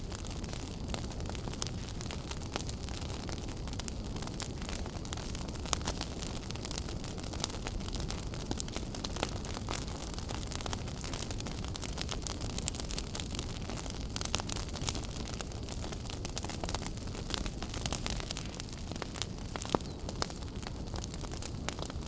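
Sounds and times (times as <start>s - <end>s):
fire crackling and popping: 0.0s - 22.0s
fireplace flames rushing: 0.0s - 22.0s.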